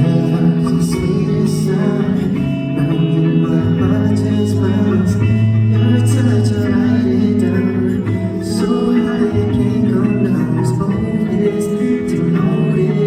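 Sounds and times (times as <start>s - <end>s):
guitar bass and light percussion: 0.0s - 13.0s
man singing: 0.0s - 13.0s.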